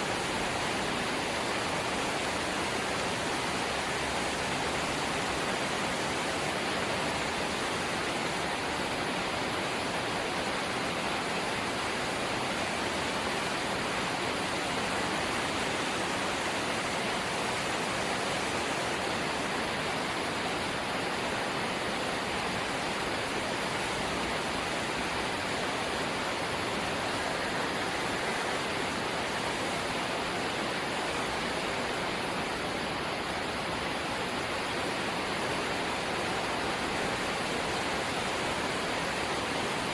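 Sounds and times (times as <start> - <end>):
light rain hissing: 0.0 - 39.9.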